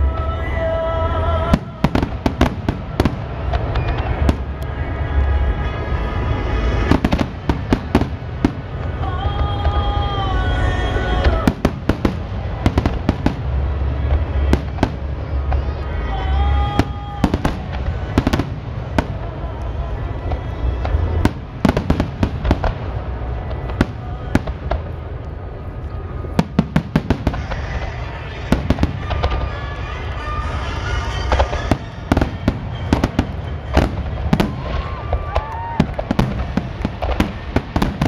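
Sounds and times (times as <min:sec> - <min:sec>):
fireworks bangs and crackling: 0:00.0 - 0:38.0
steady low rumble: 0:00.0 - 0:38.0.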